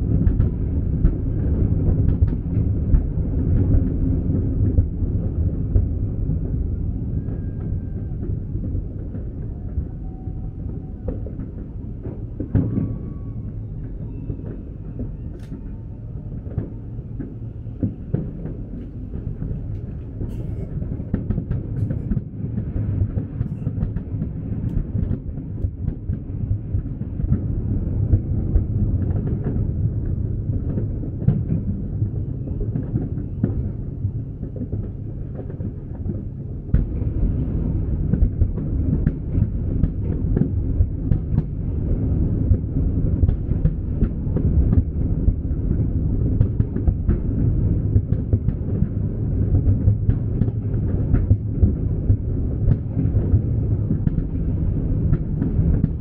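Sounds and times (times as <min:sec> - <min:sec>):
fireworks booms and crackles: 0:00.0 - 0:56.0.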